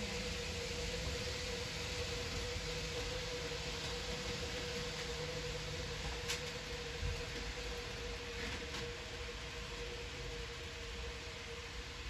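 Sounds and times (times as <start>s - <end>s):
muffled train rumble: 0.0s - 12.0s.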